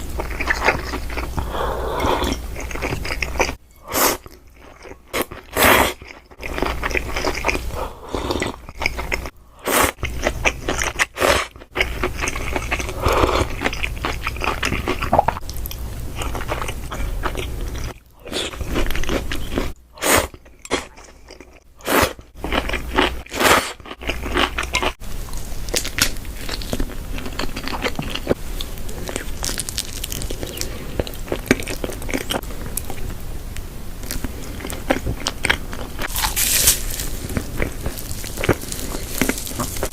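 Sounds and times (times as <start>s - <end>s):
person chewing crunchy food: 0.0s - 33.1s, 34.0s - 39.9s.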